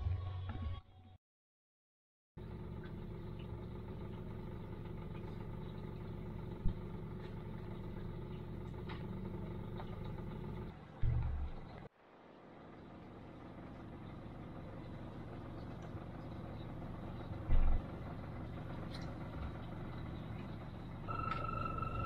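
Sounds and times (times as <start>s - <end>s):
outboard motor idling: 2.4s - 22.0s.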